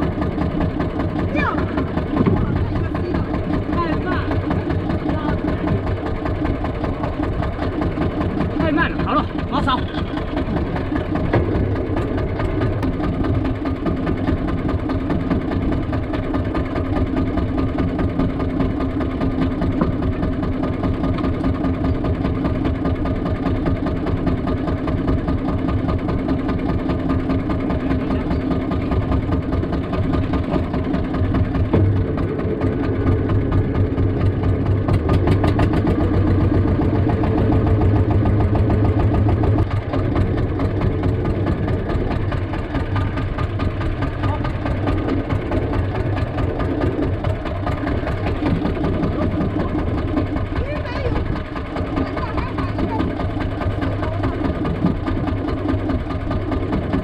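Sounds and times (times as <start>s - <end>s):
boat engine running at low revs: 0.0s - 57.0s.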